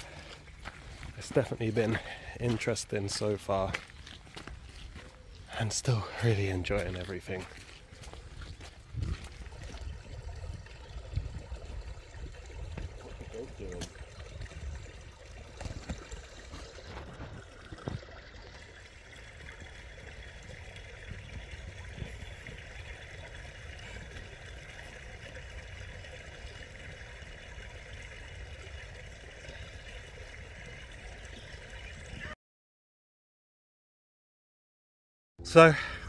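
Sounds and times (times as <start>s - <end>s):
stream water running: 0.0s - 32.4s.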